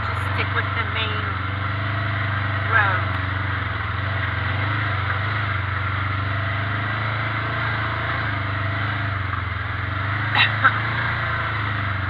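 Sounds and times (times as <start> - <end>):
atv engine running steadily: 0.0 - 12.0.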